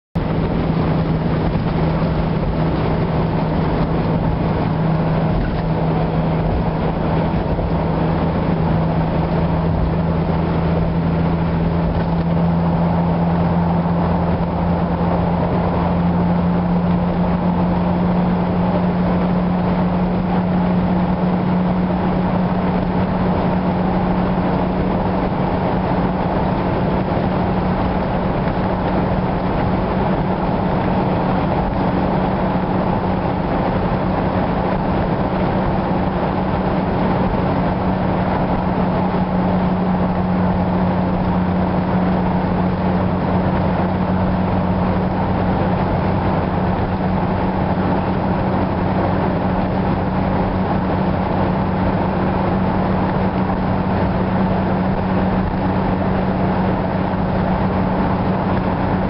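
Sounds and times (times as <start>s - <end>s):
car engine and tyre noise: 0.1s - 59.0s.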